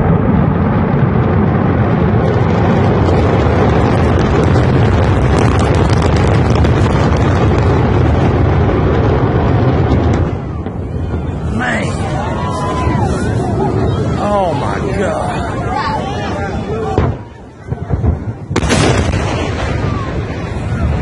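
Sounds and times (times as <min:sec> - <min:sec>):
dense crackling: 0:00.0 - 0:21.0
rocket engines rumbling: 0:00.0 - 0:21.0.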